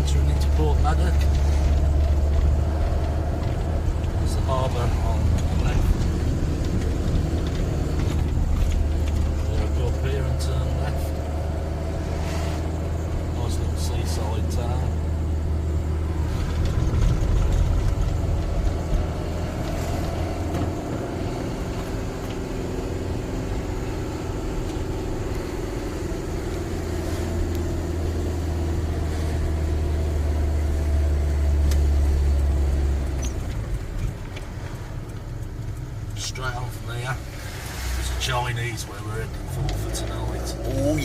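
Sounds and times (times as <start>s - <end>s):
vehicle engine and road noise: 0.0s - 41.0s.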